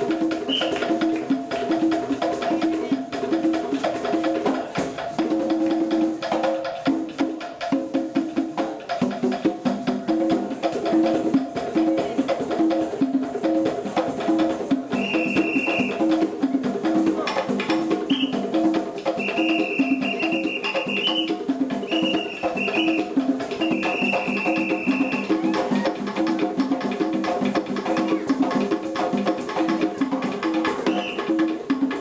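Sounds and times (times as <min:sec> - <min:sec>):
hand-drum ensemble playing: 0:00.0 - 0:32.0.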